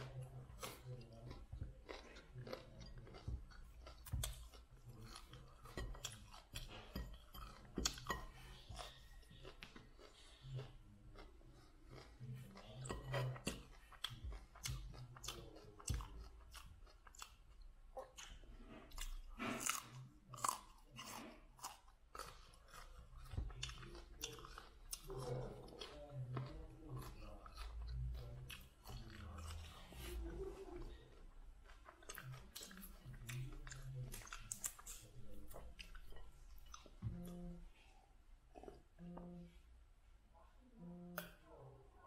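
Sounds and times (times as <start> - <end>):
broccoli crunching when chewed: 0.0 - 37.6.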